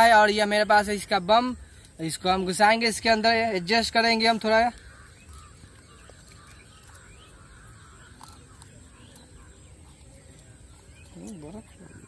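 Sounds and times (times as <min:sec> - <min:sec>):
distant birds calling: 0:00.0 - 0:12.0.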